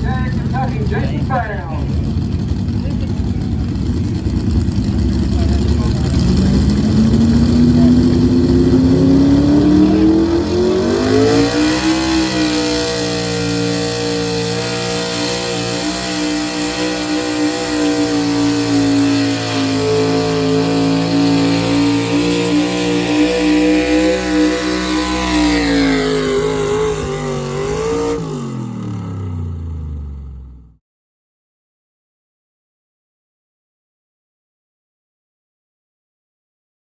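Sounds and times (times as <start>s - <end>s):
vehicle engine revving: 0.0s - 30.8s.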